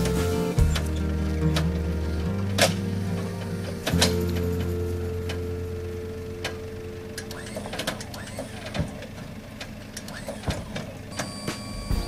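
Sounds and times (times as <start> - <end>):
crane motor whine: 0.0 - 12.0.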